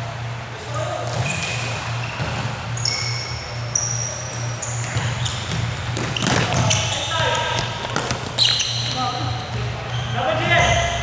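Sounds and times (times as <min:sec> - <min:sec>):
basketball shoes squeaking: 0:00.7 - 0:11.0.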